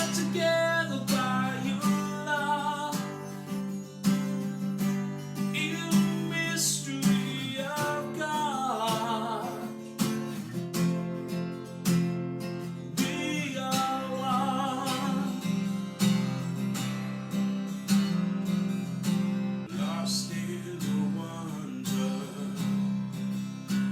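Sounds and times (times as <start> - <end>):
strummed acoustic guitar: 0.0 - 23.9.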